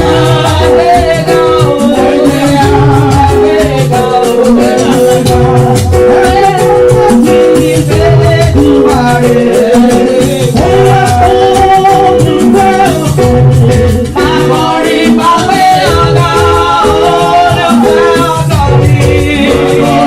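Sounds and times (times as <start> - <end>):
latin dance music with singing: 0.0 - 20.0.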